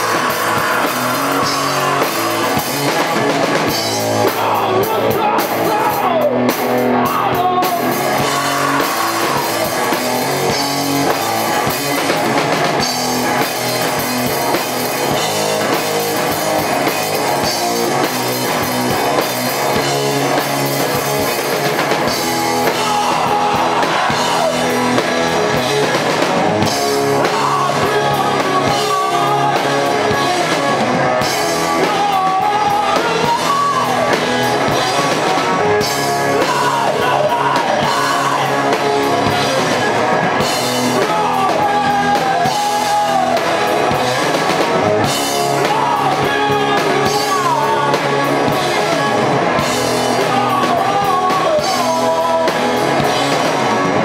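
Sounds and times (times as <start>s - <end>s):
person singing: 0.0s - 13.6s, 16.8s - 26.0s, 26.6s - 54.0s
live rock band: 0.0s - 54.0s.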